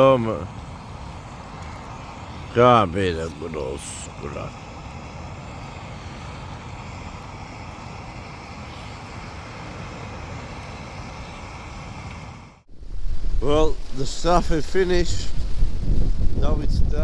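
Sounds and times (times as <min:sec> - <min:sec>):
camping stove burner hissing: 0:00.0 - 0:17.0.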